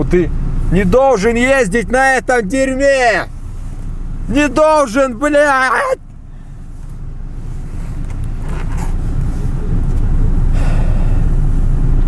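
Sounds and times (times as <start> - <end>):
engine and road rumble in car: 0.0 - 12.0.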